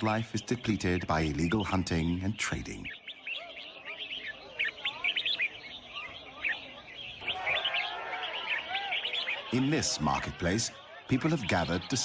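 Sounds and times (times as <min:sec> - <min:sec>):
people's voices: 0:00.0 - 0:12.0
songbirds chirping: 0:00.0 - 0:12.0.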